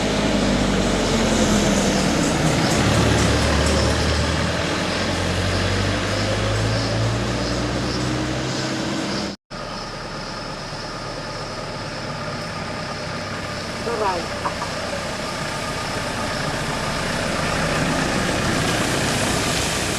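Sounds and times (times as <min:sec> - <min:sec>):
heavy vehicle engine drone: 0:00.0 - 0:19.9
traffic noise: 0:00.0 - 0:19.9.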